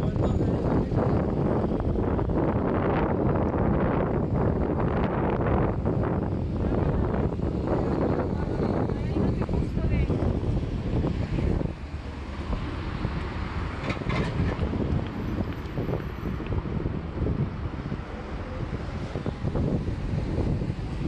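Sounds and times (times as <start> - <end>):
street traffic: 0.0 - 21.0
wind buffeting microphone: 0.0 - 21.0.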